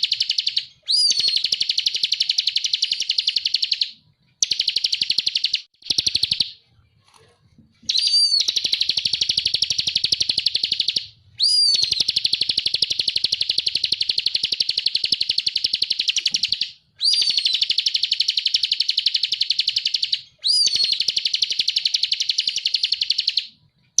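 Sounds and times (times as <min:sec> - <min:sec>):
bird whistling and trilling: 0:00.0 - 0:06.6, 0:07.8 - 0:24.0.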